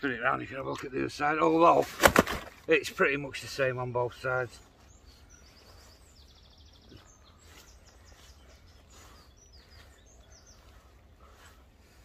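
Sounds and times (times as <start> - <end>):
songbird chirps: 0.0 - 12.0.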